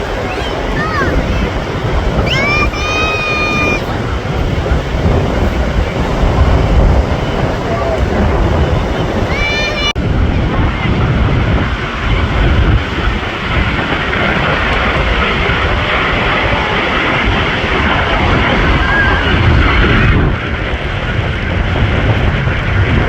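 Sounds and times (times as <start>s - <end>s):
aircraft engine roar: 0.0s - 23.0s
wind buffeting microphone: 0.0s - 23.0s.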